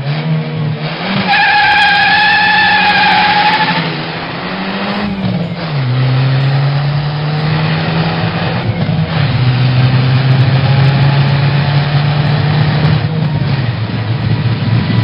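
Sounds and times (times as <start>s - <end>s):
car engine running: 0.9s - 15.0s.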